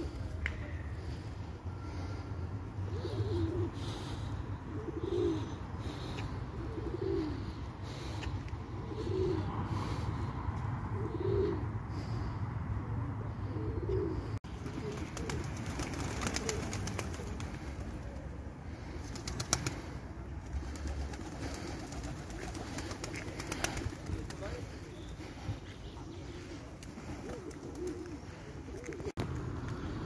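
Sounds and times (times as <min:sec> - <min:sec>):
low outdoor rumble: 0:00.0 - 0:30.0
pigeons cooing: 0:02.7 - 0:12.2, 0:13.2 - 0:29.2.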